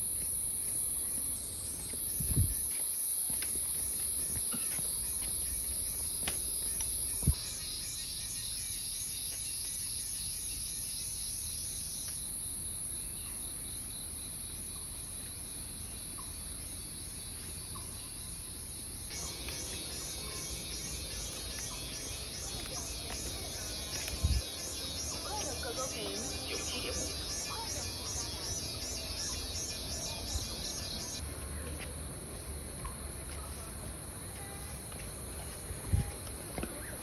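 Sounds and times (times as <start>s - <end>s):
high-pitched insect chorus: 0.0s - 36.2s.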